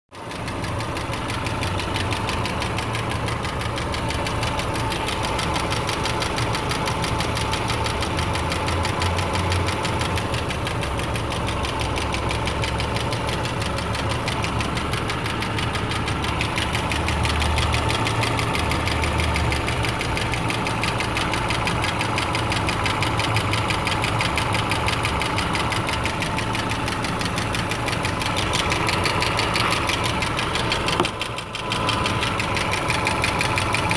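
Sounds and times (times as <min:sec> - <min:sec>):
rapid regular engine ticking: 0:00.1 - 0:33.9
car engine running: 0:00.2 - 0:33.9.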